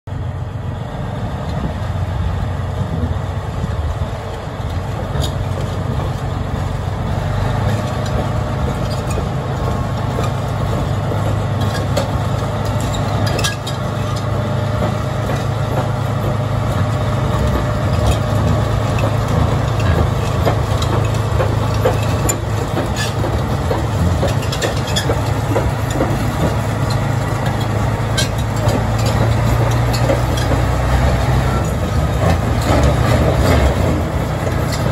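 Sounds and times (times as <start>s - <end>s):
diesel engine running: 0.1s - 34.9s
track links clicking and clanking: 1.3s - 34.9s.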